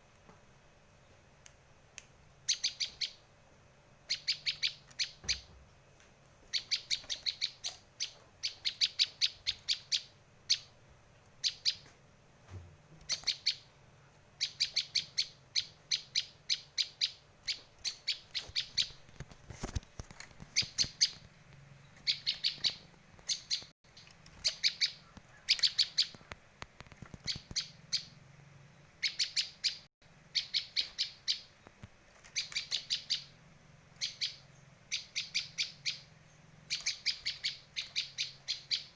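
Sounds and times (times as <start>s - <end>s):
bird chirping in bursts: 2.4s - 3.3s, 4.0s - 5.7s, 6.4s - 11.9s, 13.0s - 19.1s, 20.4s - 26.4s, 27.1s - 31.6s, 32.2s - 38.9s.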